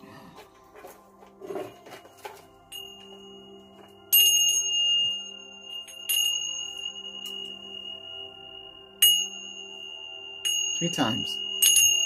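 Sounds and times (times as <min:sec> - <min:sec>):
low steady drone: 0:00.0 - 0:12.0
chimes ringing: 0:01.6 - 0:12.0.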